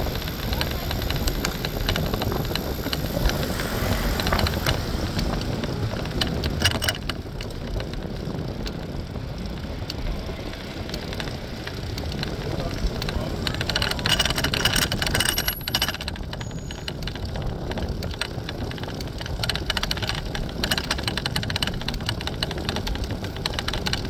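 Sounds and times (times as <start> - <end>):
bicycle rolling noise: 0.0 - 24.0
sharp rattling clicks: 0.0 - 24.0
wind buffeting microphone: 0.0 - 24.0.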